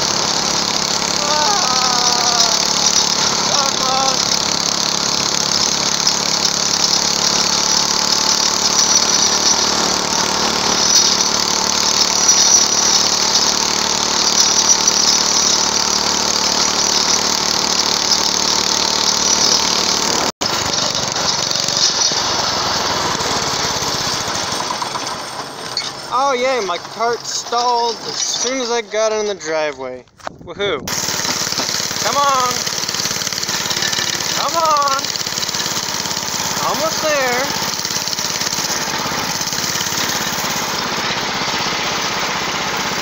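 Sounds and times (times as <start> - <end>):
small go-kart engine running: 0.0 - 29.5, 30.9 - 43.0.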